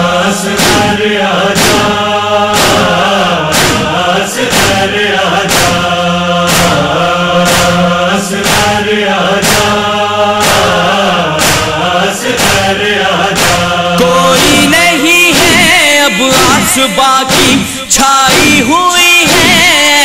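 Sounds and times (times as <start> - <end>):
chest-beating rhythm: 0.0 - 20.0
chorus chanting: 0.0 - 20.0.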